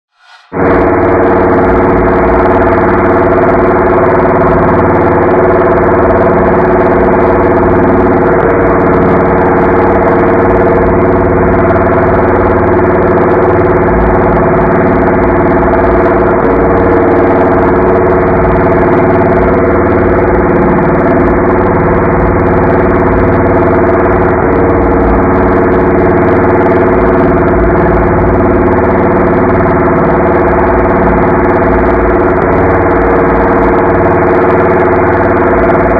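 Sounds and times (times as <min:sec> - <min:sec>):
robot vocoder voice drone: 0:00.2 - 0:35.9.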